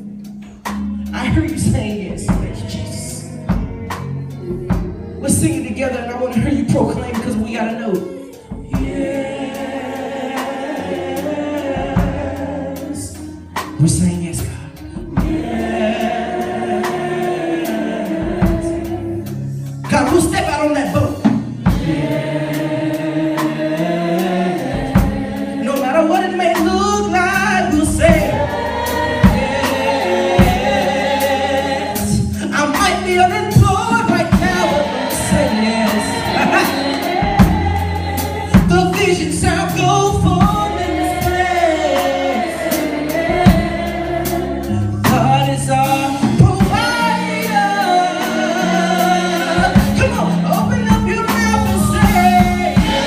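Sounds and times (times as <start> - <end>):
group singing gospel song: 0.0 - 53.0
live band with bass and drums: 0.0 - 53.0.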